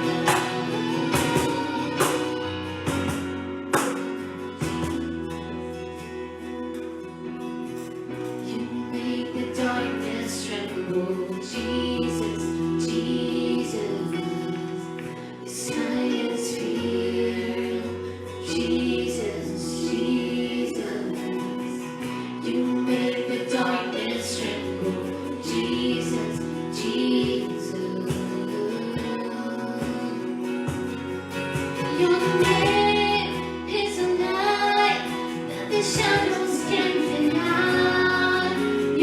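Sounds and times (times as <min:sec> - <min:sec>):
group singing worship music: 0:00.0 - 0:06.2, 0:07.0 - 0:39.0
acoustic guitar: 0:00.0 - 0:39.0
bass guitar: 0:00.0 - 0:39.0.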